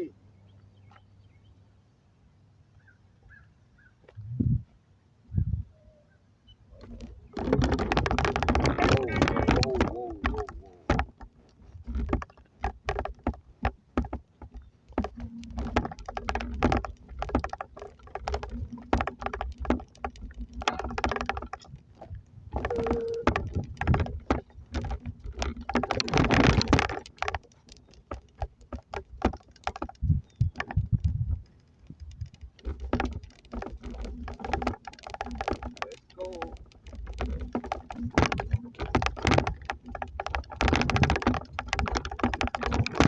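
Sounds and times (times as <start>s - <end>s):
objects clicking and rattling: 6.7s - 43.0s.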